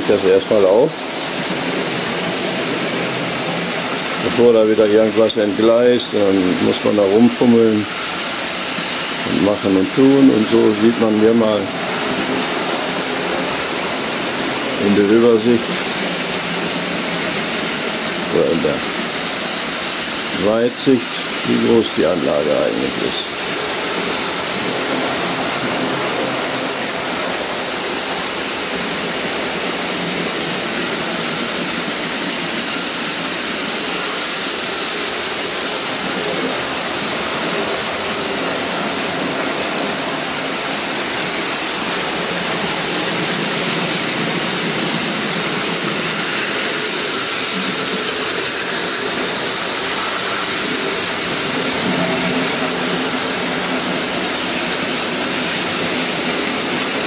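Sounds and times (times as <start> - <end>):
model trains whirring on track: 0.0 - 57.0.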